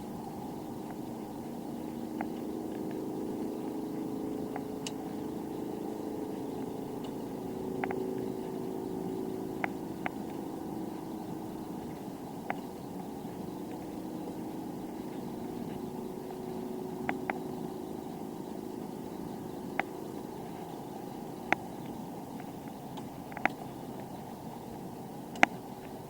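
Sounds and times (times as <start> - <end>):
bicycle tyre and wind rumble: 0.0 - 26.0.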